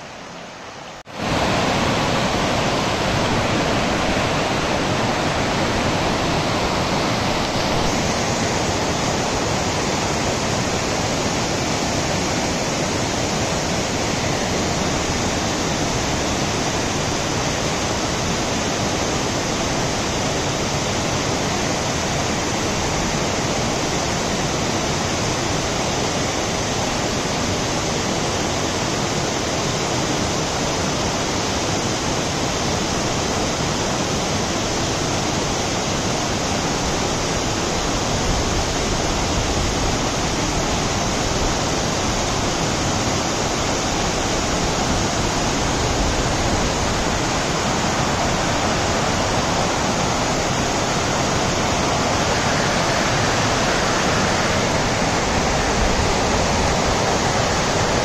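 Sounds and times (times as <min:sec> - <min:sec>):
waterfall rushing over rock: 0:00.0 - 0:58.0.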